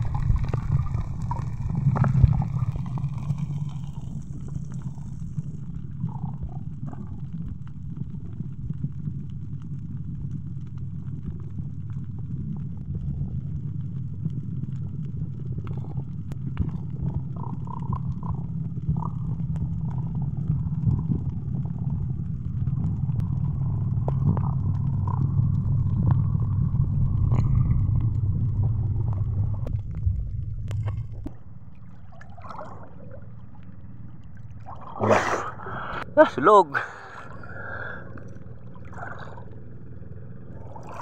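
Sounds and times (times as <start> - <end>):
muffled underwater rumble: 0.0 - 41.0
open water: 0.0 - 41.0.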